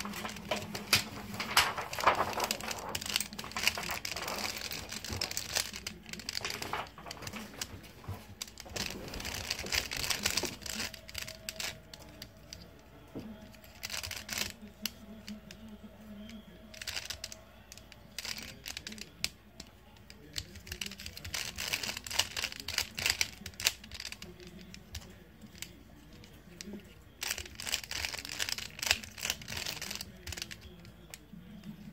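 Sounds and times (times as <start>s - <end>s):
puzzle cube plastic clicks: 0.0s - 12.7s, 13.4s - 31.3s.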